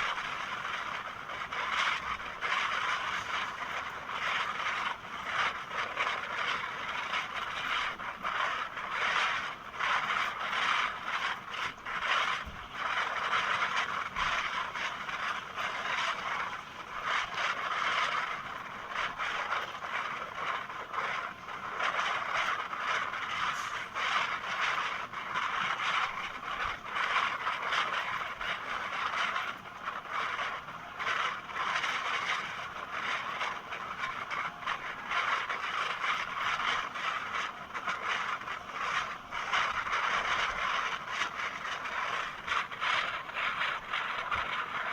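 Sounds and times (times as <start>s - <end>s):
train wheels on rails: 0.0s - 44.9s.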